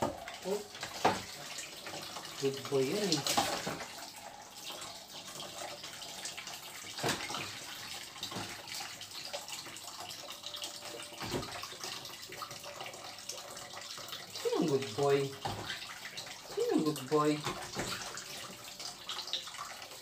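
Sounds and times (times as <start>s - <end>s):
water running from faucet: 0.0s - 20.0s
water splashing in sink: 0.0s - 20.0s.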